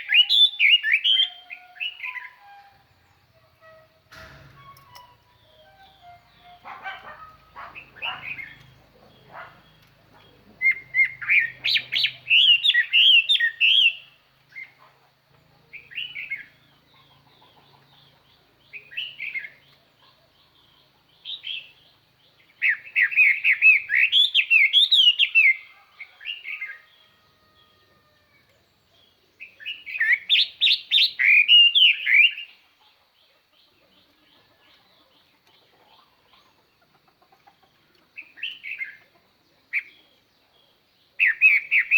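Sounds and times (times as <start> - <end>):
bird singing warbling phrases: 0.0 - 14.9, 15.6 - 27.7, 28.6 - 36.6, 37.6 - 41.9.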